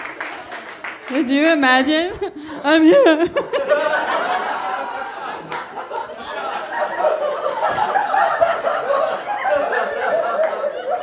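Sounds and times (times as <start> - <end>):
audience laughing: 2.1 - 11.0.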